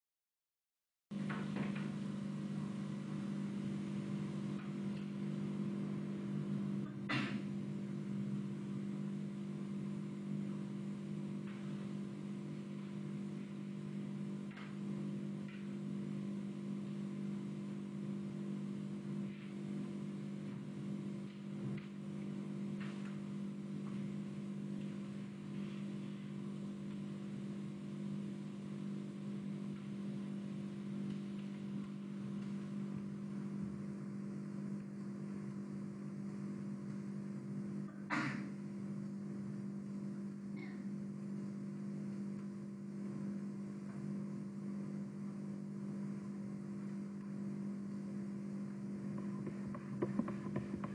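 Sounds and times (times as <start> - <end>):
steady low hum: 1.1 - 50.9.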